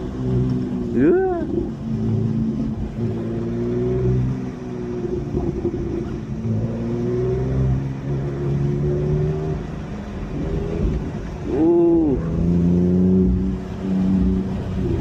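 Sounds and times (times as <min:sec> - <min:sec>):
car engine revving through gears: 0:00.0 - 0:15.0.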